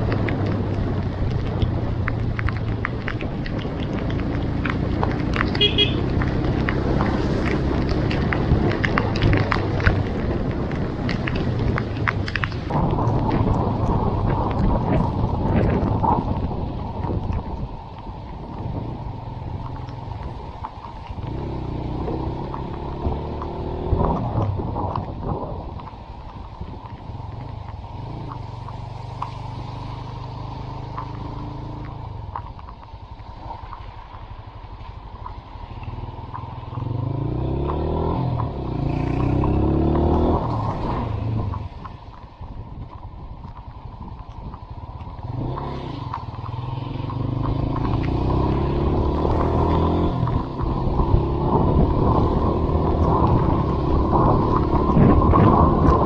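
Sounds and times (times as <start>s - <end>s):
motorcycle engine accelerating through gears: 0.0s - 17.6s, 18.4s - 26.0s, 26.9s - 33.0s, 35.0s - 42.2s, 43.7s - 56.0s.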